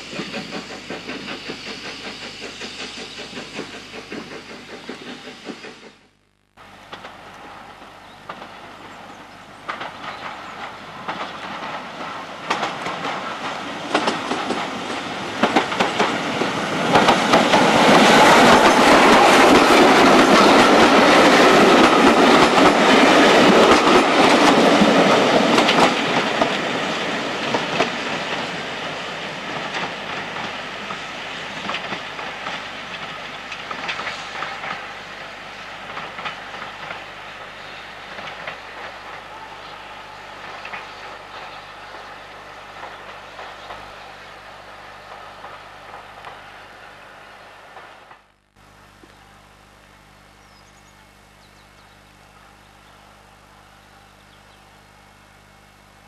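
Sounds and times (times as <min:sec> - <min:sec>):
train wheels clickety-clack: 0:00.0 - 0:06.1, 0:06.9 - 0:46.5.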